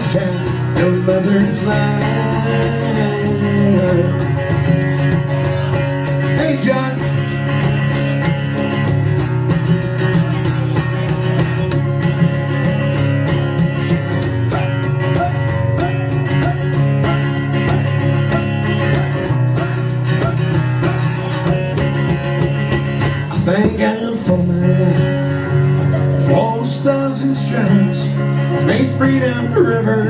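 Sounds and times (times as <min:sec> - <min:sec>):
jingling tambourine: 0:00.0 - 0:30.0
strummed guitar: 0:00.0 - 0:30.0.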